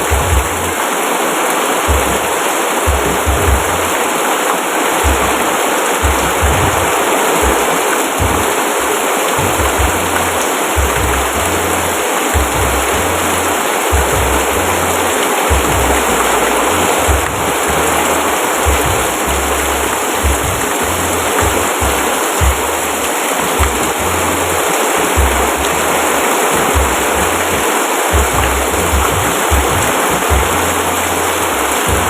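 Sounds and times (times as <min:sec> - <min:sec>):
low thumps: 0:00.0 - 0:00.8, 0:01.9 - 0:04.0, 0:05.0 - 0:08.6, 0:09.3 - 0:32.0
heavy rain: 0:00.0 - 0:32.0.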